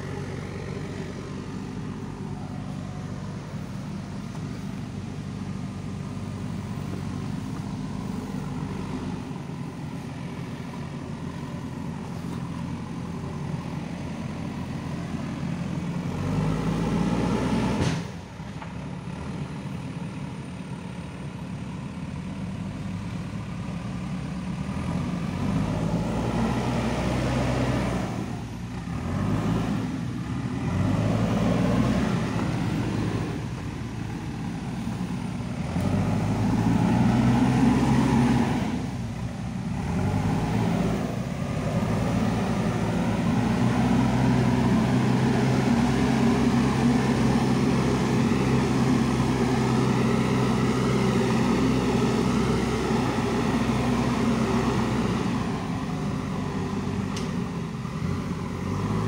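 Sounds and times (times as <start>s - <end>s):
diesel engine working under load: 0.0s - 59.0s.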